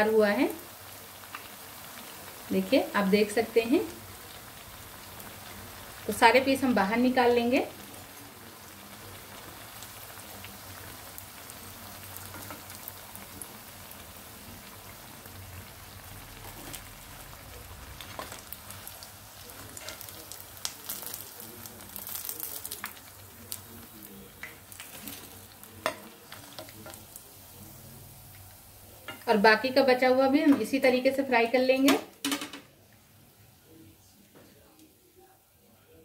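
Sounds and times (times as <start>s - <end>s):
hot oil sizzling in a pan: 0.0s - 36.0s.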